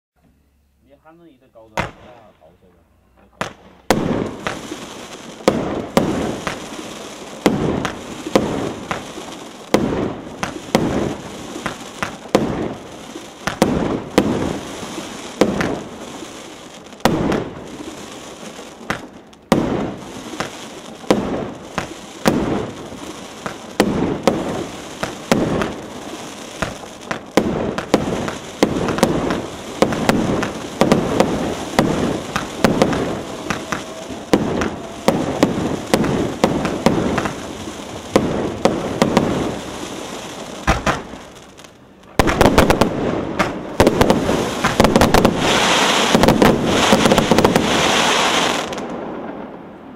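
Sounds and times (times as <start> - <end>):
fireworks crackling: 0.9 - 49.9
fireworks banging: 1.1 - 2.6, 3.2 - 49.9.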